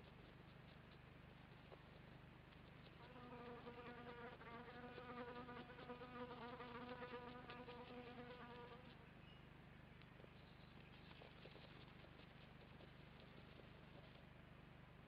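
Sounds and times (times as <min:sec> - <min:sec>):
faint steady buzz: 0:00.0 - 0:15.0.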